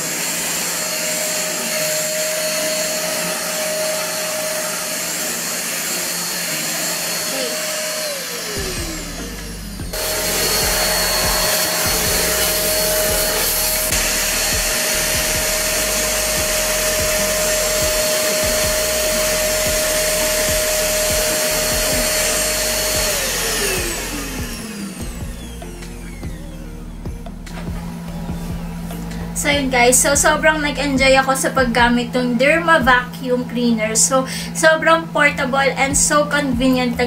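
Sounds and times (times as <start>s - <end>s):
handheld vacuum cleaner motor whine: 0.0s - 29.9s.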